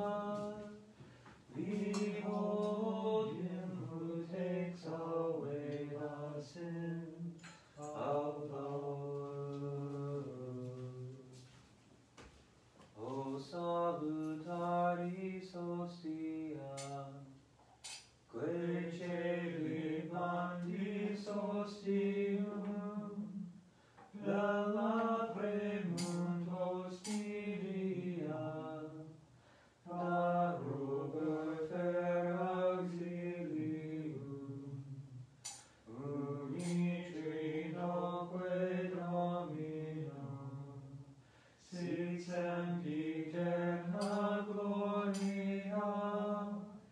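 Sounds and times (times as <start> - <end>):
men singing a slow hymn: 0.0 - 11.6, 12.9 - 17.4, 18.3 - 46.9.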